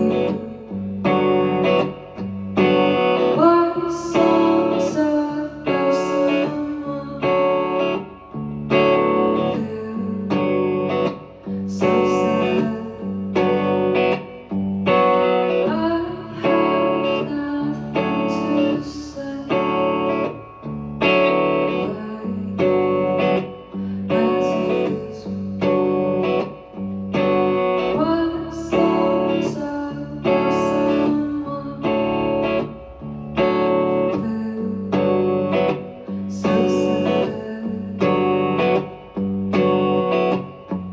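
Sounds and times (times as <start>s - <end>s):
guitar chords strummed: 0.0s - 40.9s.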